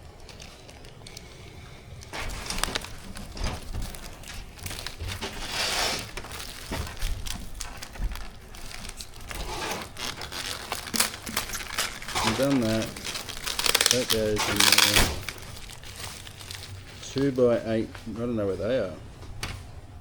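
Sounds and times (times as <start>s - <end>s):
plastic packaging crinkling: 0.0s - 18.5s.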